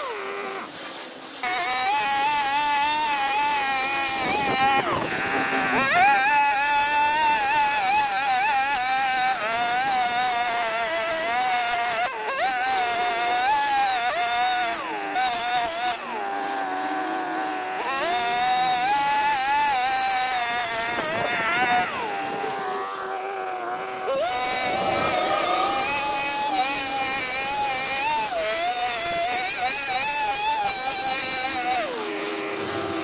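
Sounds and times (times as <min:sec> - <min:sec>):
brushcutter engine cutting weeds: 0:00.0 - 0:33.0.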